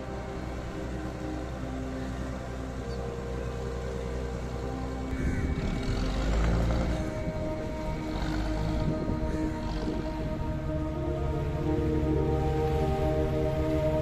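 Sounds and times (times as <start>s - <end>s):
boat engine droning: 0.0s - 14.0s
boat wake churning: 0.0s - 14.0s
soft ambient music: 0.0s - 14.0s.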